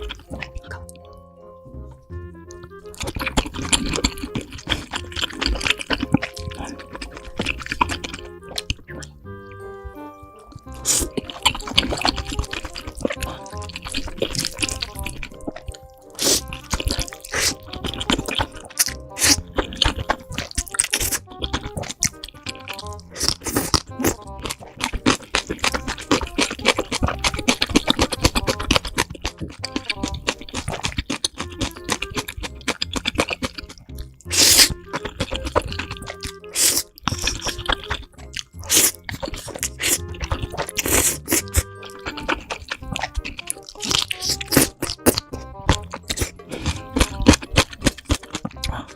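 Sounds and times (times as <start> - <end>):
slurping and chewing noodles: 0.0 - 1.2, 2.5 - 48.9
background music: 0.0 - 48.9.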